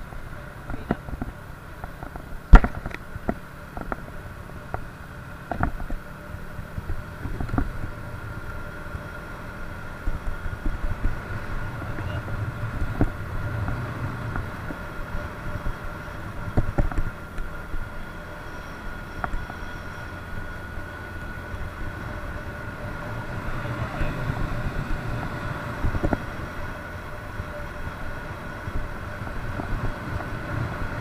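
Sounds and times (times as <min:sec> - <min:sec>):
moped engine running: 0:00.0 - 0:31.0.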